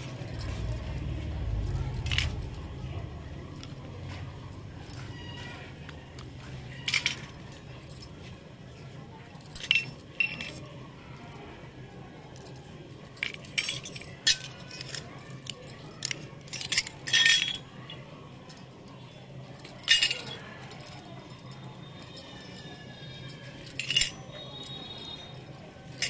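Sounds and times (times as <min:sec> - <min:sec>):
toy metal dishes clinking: 0:00.0 - 0:08.3, 0:09.0 - 0:26.0.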